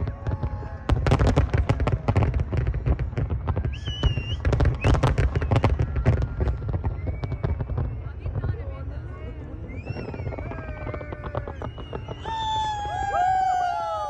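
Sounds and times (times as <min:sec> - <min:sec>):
high firework whistle: 0:00.0 - 0:08.6, 0:09.5 - 0:14.0
firework bangs and crackles: 0:00.0 - 0:14.0.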